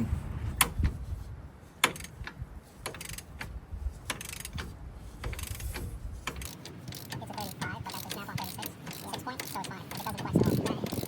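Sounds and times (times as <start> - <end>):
hand ratchet clicking: 1.8 - 11.0.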